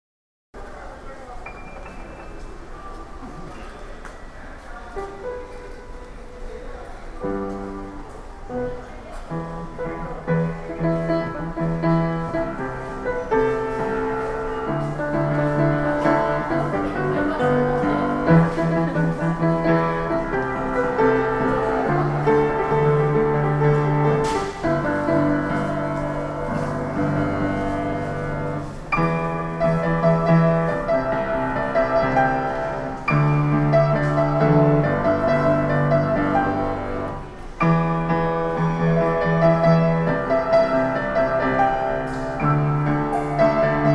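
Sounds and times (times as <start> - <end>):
solo piano pop tune: 4.9 - 43.9.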